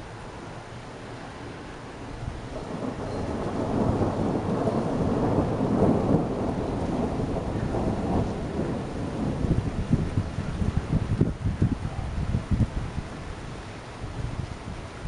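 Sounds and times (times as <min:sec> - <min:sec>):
thunder rumbling: 0:02.2 - 0:14.9.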